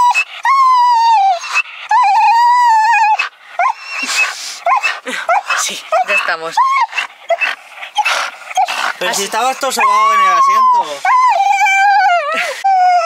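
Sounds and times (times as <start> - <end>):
dog whining: 0.0 - 13.0.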